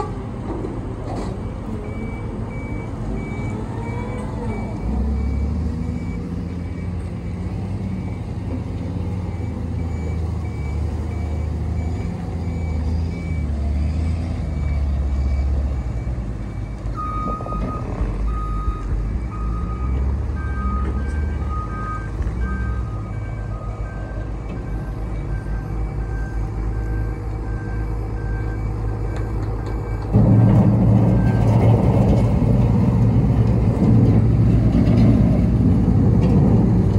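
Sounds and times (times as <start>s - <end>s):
wheel loader diesel engine revving: 0.0s - 36.9s
reversing alarms beeping: 1.2s - 32.3s.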